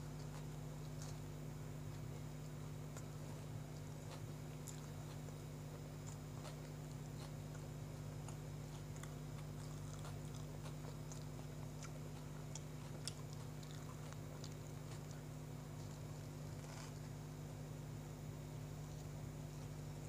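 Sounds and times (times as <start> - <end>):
person chewing bread: 0.0 - 20.0
steady low hum: 0.0 - 20.0.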